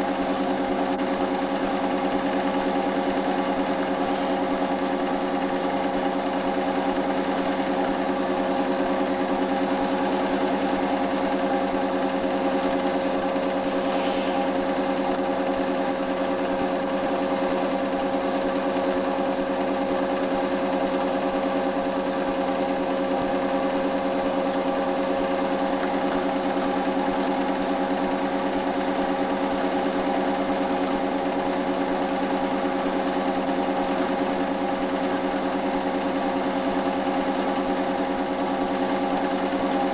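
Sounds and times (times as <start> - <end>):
film projector whirring: 0.0 - 39.9
film rapid flutter: 0.0 - 39.9.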